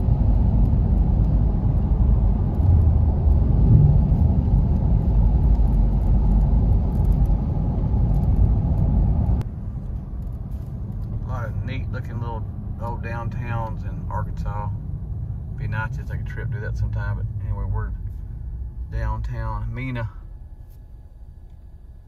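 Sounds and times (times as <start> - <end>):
car driving heard from inside: 0.0 - 22.0.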